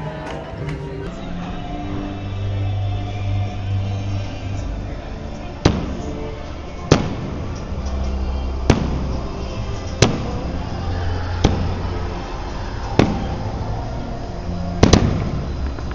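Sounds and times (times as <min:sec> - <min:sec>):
music playing: 0:00.0 - 0:12.8.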